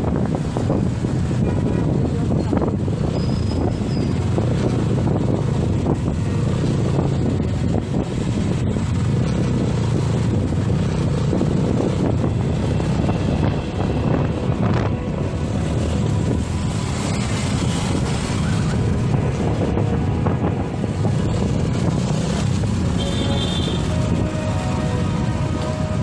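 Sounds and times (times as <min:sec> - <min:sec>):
motorcycle and scooter engines: 0:00.0 - 0:26.0
wind rushing over microphone: 0:00.0 - 0:26.0.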